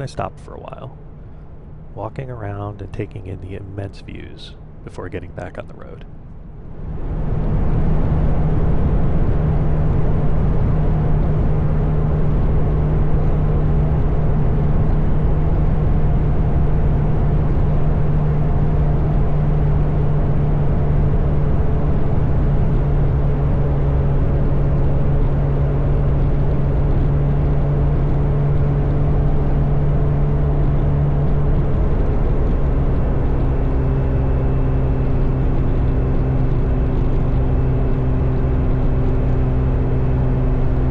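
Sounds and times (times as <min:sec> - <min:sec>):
wind and road noise: 0:04.6 - 0:40.9.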